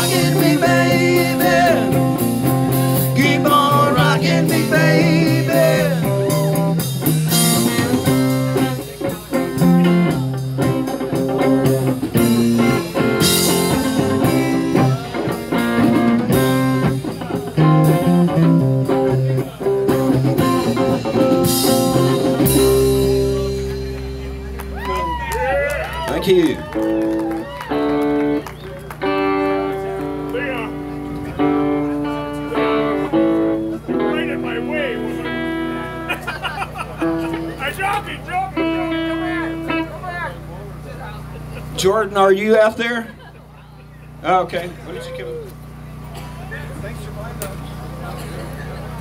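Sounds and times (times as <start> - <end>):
bass line: 0.0 - 49.0
electric guitar with bending notes: 0.0 - 49.0.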